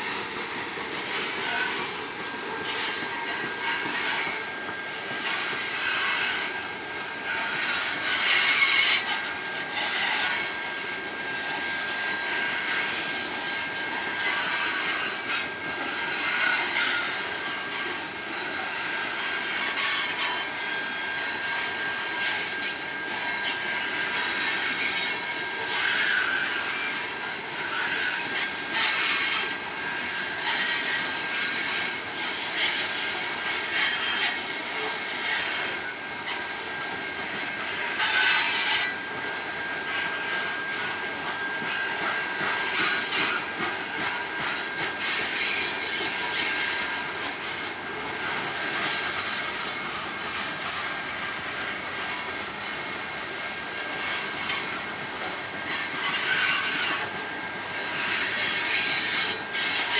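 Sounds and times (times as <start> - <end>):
screech and rattle: 0.0 - 59.9.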